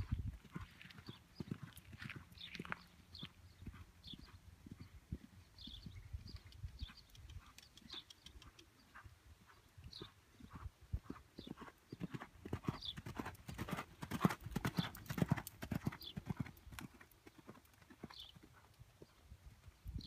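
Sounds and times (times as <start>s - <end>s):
horse hooves trotting on sand: 0.0s - 20.0s.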